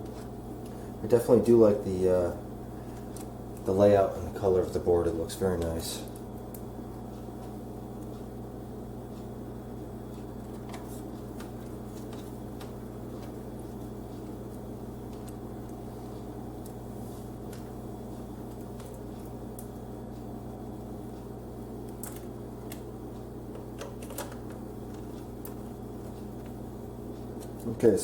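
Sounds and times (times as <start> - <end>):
electrical hum: 0.0 - 28.0.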